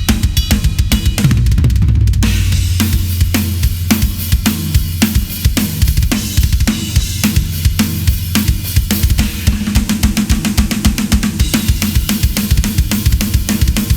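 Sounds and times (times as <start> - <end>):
drum kit groove: 0.0 - 13.9.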